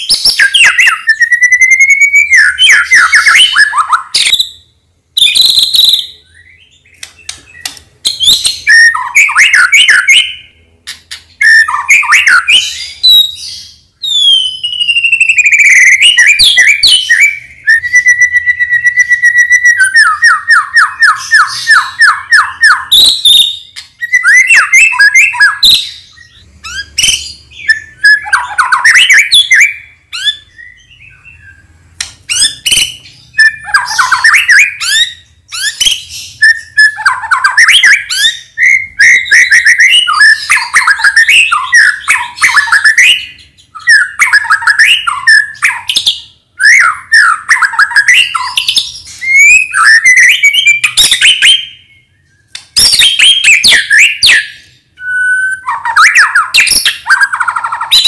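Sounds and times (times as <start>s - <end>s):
bird singing loudly: 0.0s - 10.7s, 11.3s - 58.0s.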